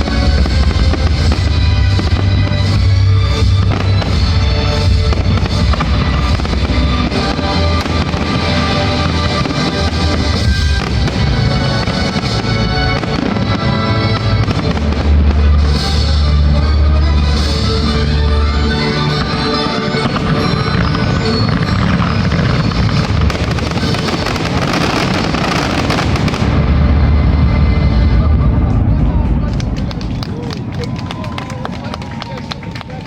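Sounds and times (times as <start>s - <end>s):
loud music with heavy bass: 0.0s - 29.0s
fireworks bursting: 0.0s - 30.7s.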